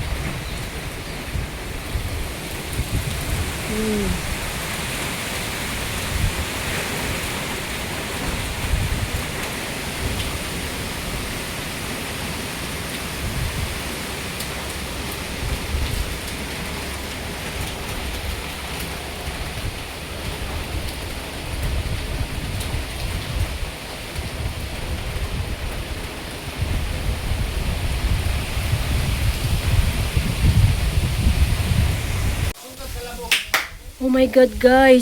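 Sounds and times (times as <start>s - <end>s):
heavy rain hissing: 0.0s - 35.0s
wind gusts buffeting microphone: 0.0s - 35.0s.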